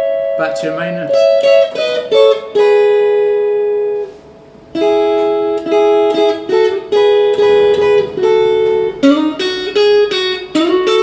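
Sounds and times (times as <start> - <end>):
electric guitar chords ringing: 0.0 - 11.0.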